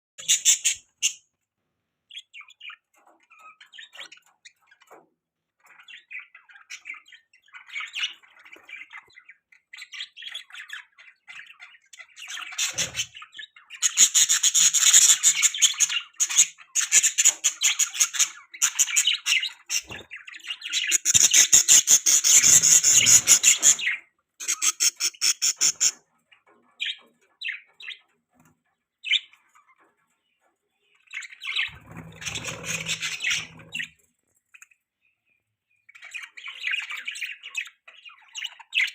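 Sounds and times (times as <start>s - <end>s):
budgerigars chirping and chattering: 0.2s - 1.4s, 2.0s - 38.9s.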